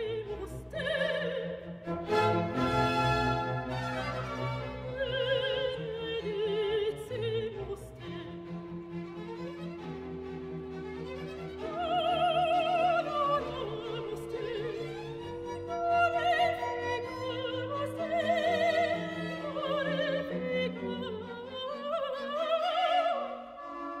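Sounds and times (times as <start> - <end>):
orchestral strings: 0.0 - 24.0.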